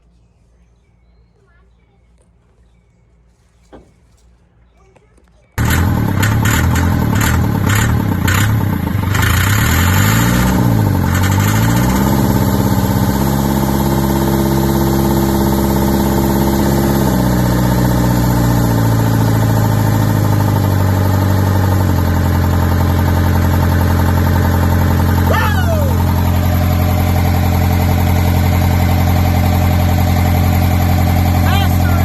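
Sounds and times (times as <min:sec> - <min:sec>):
diesel engine running: 0:05.6 - 0:32.0.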